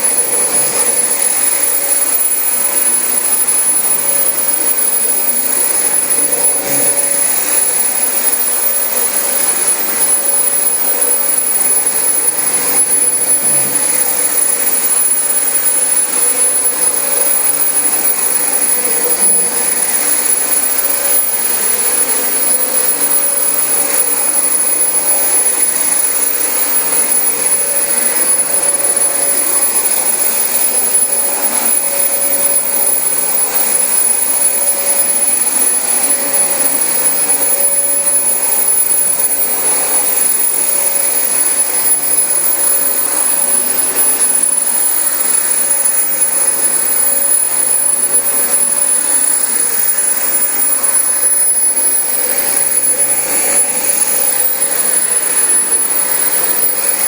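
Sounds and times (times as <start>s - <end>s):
vacuum cleaner running on carpet: 0.0s - 57.0s.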